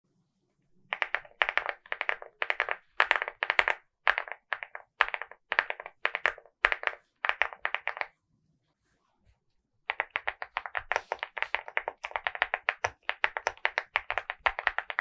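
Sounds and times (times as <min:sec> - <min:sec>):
mechanical keyboard typing: 0:00.9 - 0:08.1, 0:09.9 - 0:15.0.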